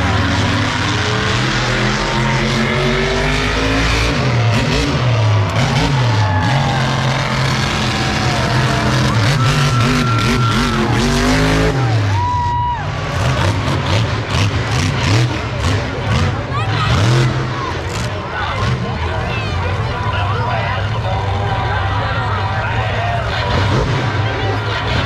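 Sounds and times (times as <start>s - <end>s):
truck engines revving: 0.0s - 25.0s.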